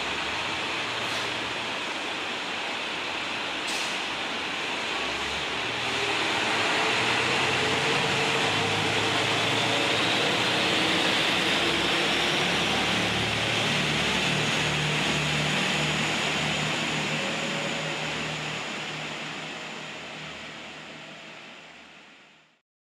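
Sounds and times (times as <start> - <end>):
diesel train engines roaring: 0.0 - 22.5
faint rising whine: 0.0 - 22.6.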